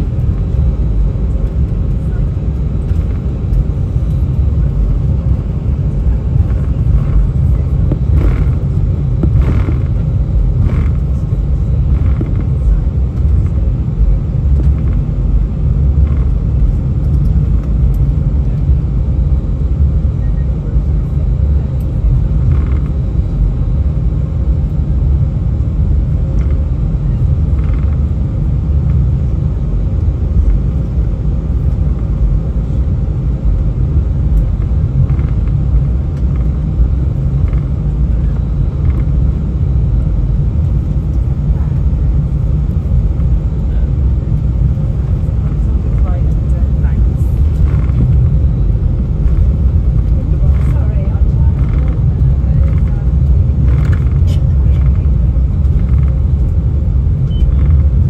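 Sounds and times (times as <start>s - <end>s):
aircraft cabin rumble: 0.0s - 58.0s.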